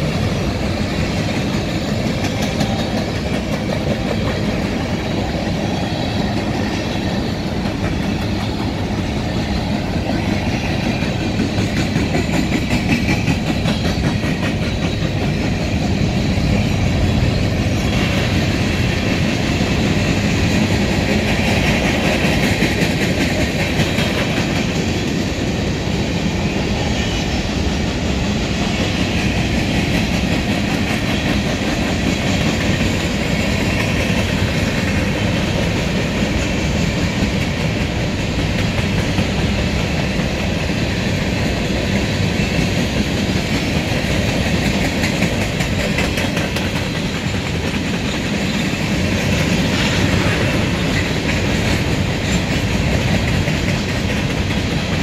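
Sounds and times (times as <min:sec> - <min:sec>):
train wheels on rails: 0:00.0 - 0:55.0
wheels clacking over rail joints: 0:00.0 - 0:55.0.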